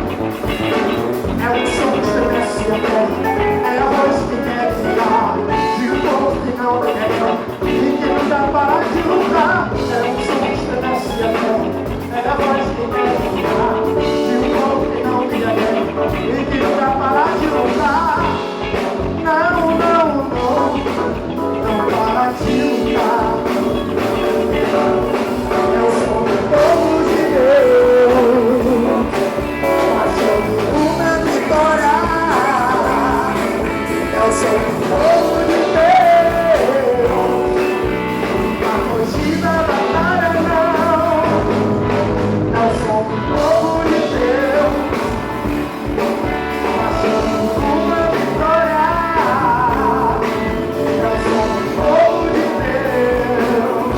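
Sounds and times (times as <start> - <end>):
rock band playing: 0.0 - 53.9
sliding lead melody: 0.0 - 53.9.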